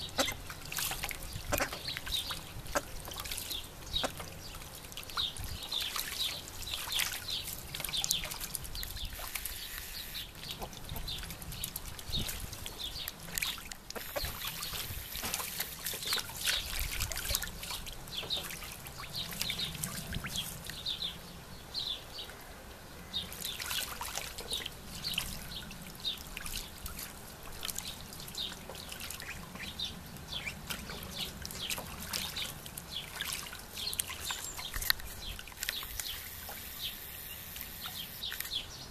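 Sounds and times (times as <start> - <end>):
water dripping and trickling: 0.0 - 21.2, 23.2 - 36.8
ducks splashing water: 0.0 - 38.7.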